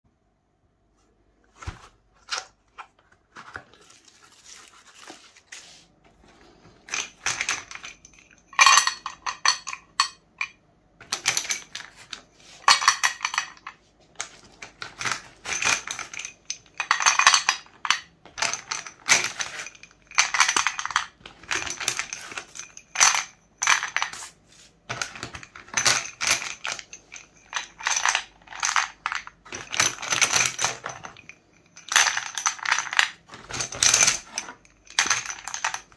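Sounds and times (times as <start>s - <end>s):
chalk sticks clattering: 2.2s - 35.9s.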